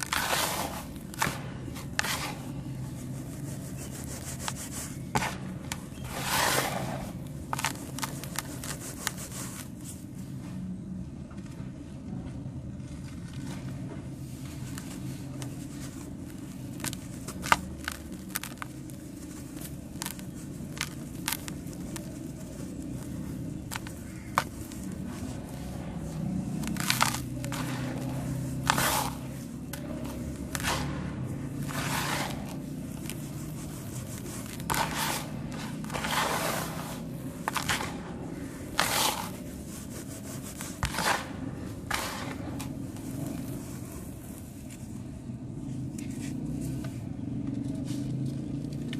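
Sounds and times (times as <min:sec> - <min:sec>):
cement crackling and snapping: 0:00.0 - 0:03.8, 0:05.2 - 0:09.8, 0:12.9 - 0:44.4
steady low hum: 0:00.0 - 0:48.6.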